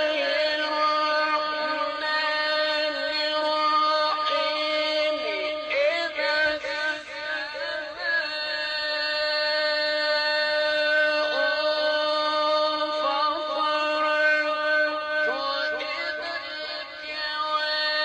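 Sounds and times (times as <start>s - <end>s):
person chanting melodic recitation: 0.0s - 18.0s.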